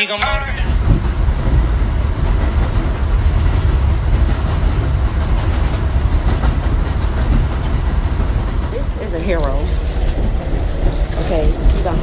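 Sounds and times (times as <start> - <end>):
rail clatter: 0.0 - 12.0
train rumbling on rails: 0.2 - 12.0.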